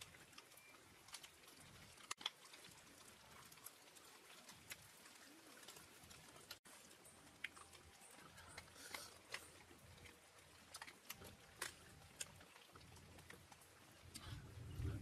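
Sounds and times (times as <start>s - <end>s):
faint clicks and ticks: 0.0s - 15.0s.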